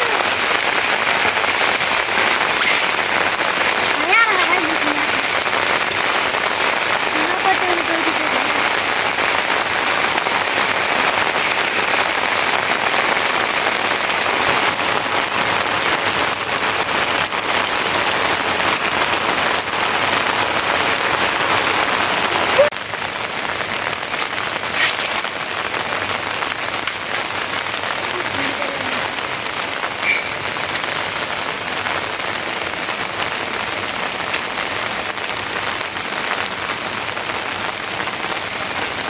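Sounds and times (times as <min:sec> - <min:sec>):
heavy rain pattering: 0:00.0 - 0:39.0.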